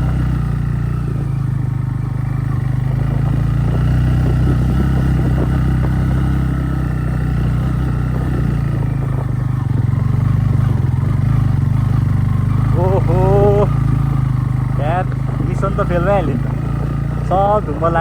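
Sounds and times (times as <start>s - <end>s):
bike clattering over rough track: 0.0s - 18.0s
motorcycle engine running: 0.0s - 18.0s.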